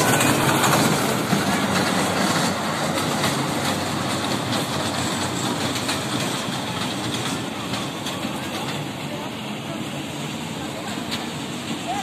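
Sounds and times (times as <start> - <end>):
ride train rattling on rails: 0.0 - 12.0.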